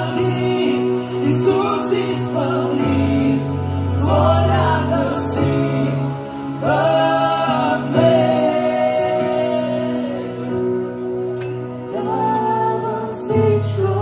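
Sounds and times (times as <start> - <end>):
bass: 0.0 - 14.0
singers holding long notes: 0.0 - 14.0.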